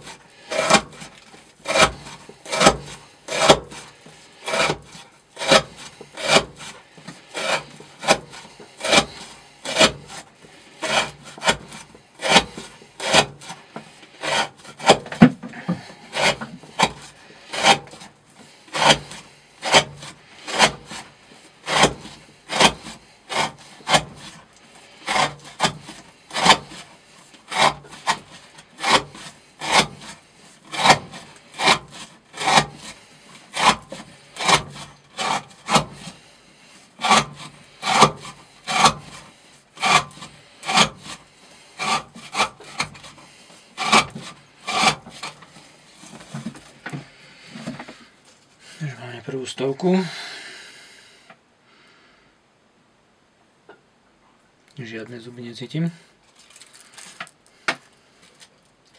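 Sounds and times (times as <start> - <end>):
knife cutting rope: 0.0 - 36.2, 37.0 - 48.1.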